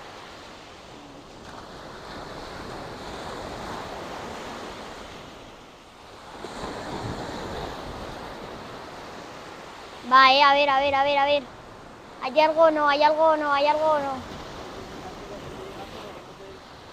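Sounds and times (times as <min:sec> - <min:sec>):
sea waves breaking on beach: 0:00.0 - 0:16.9.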